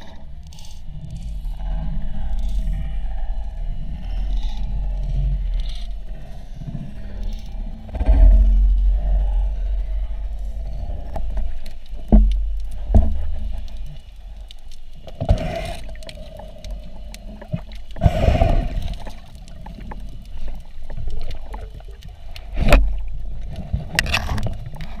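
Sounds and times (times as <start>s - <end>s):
low underwater rumble: 0.0s - 25.0s
bubbling swishes of water: 0.9s - 25.0s.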